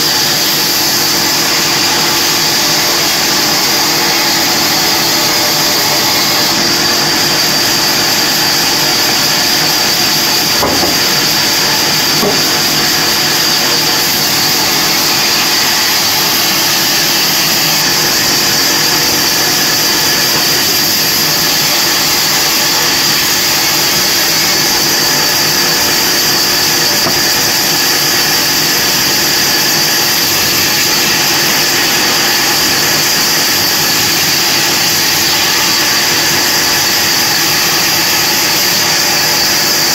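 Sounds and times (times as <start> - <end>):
bandsaw sawing log: 0.0 - 39.9.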